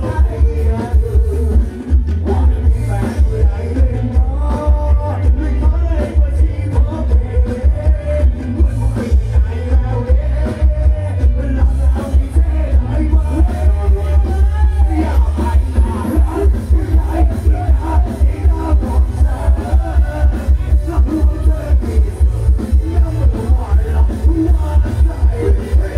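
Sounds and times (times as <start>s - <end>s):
heavy bass beat: 0.0s - 25.9s
live band dance music: 0.0s - 25.9s
men singing: 0.0s - 25.9s.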